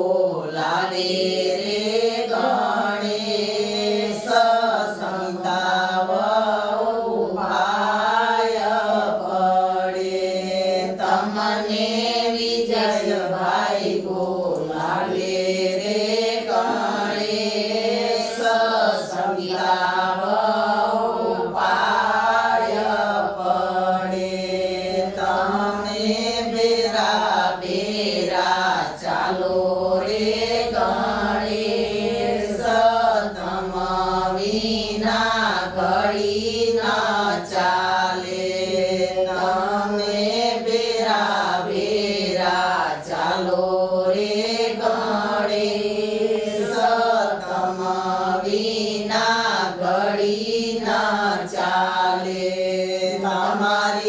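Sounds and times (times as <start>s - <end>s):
women singing in unison: 0.0s - 54.0s.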